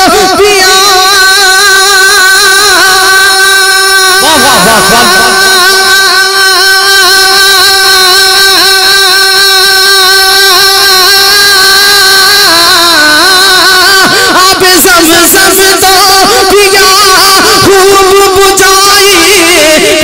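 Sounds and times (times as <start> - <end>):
man singing through loudspeaker: 0.0 - 20.0.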